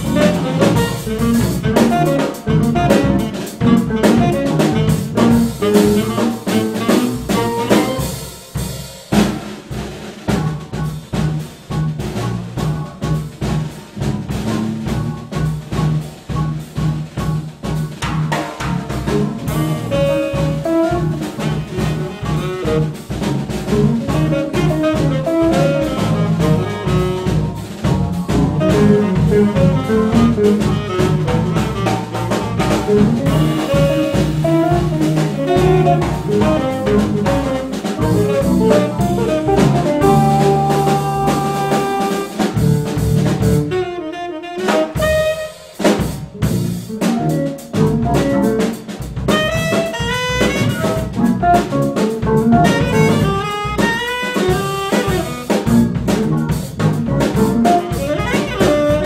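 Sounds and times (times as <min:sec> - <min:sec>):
tenor saxophone solo: 0:00.0 - 0:08.6, 0:18.8 - 0:56.6, 0:57.2 - 0:59.0
jazz band playing: 0:00.0 - 0:59.0.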